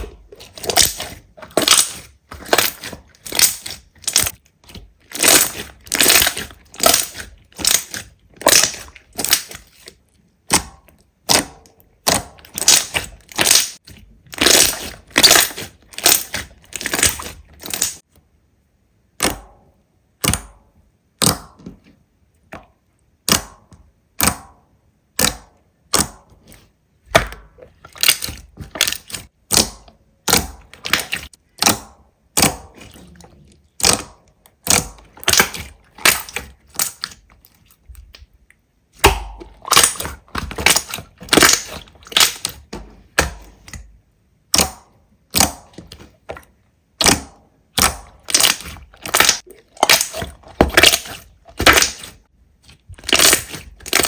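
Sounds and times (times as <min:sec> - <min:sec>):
slime clicking and popping: 0:00.3 - 0:18.0, 0:19.2 - 0:19.6, 0:20.2 - 0:20.6, 0:22.6 - 0:24.6, 0:25.2 - 0:26.3, 0:27.1 - 0:38.3, 0:39.0 - 0:42.6, 0:44.5 - 0:46.4, 0:47.0 - 0:52.2, 0:52.9 - 0:54.0.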